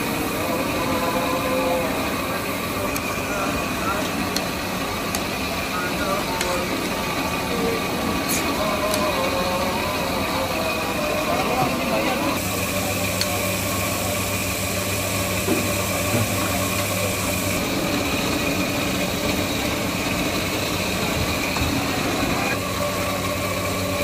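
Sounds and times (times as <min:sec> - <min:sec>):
constant noisy background: 0:00.0 - 0:24.0
machine hum: 0:00.0 - 0:24.0.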